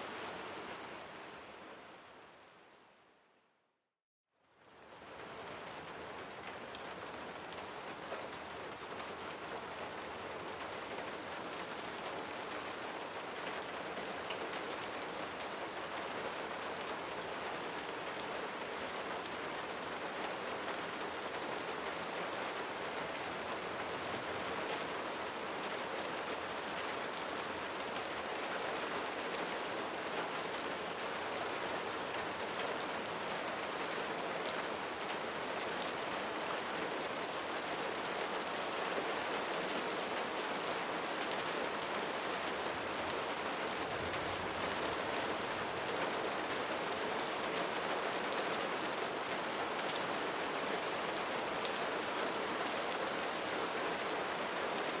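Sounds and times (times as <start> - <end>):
rain falling: 0.0 - 3.0, 4.6 - 55.0.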